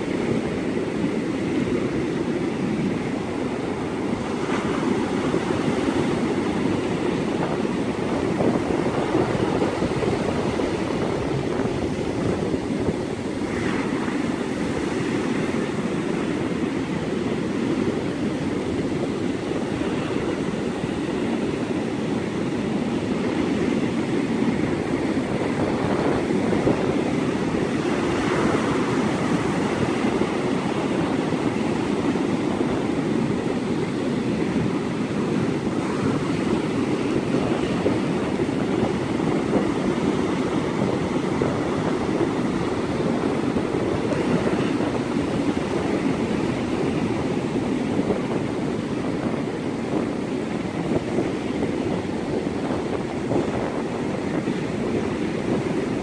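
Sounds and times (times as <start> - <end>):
ocean surf breaking on beach: 0.0 - 56.0
wind: 0.0 - 56.0.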